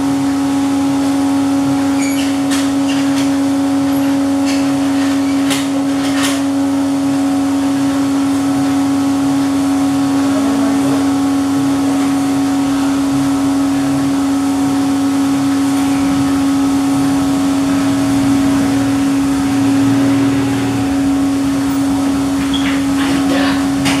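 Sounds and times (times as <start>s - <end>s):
coffee roaster motor hum: 0.0s - 24.0s
stirring arm turning beans: 0.0s - 24.0s.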